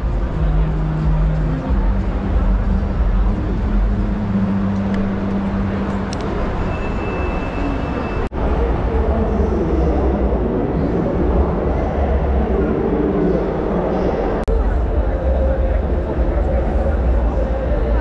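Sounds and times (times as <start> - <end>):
crowd din in a hall: 0.0 - 18.0.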